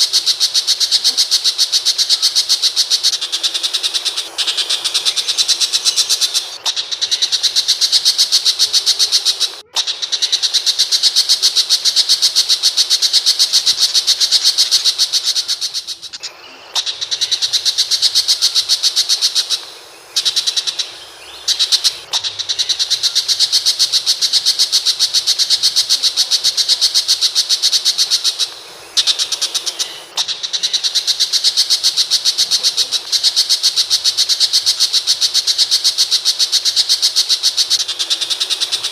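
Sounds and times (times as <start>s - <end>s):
bird singing fast chatter: 0.0s - 38.9s.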